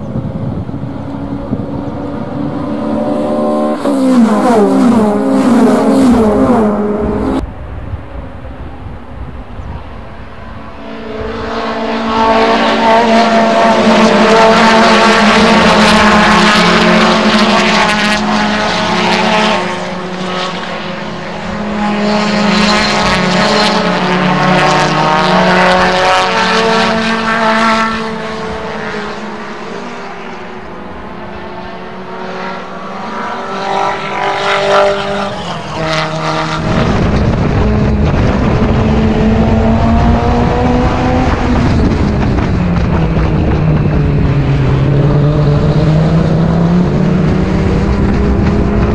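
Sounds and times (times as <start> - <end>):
race car engine revving: 0.0 - 7.4, 8.8 - 48.9.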